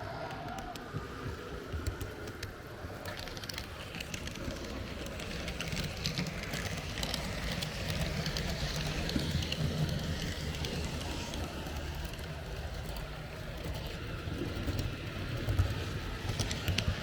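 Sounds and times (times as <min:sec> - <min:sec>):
model train rumbling on track: 0:00.0 - 0:17.0
wheels clicking over rail joints: 0:00.2 - 0:17.0.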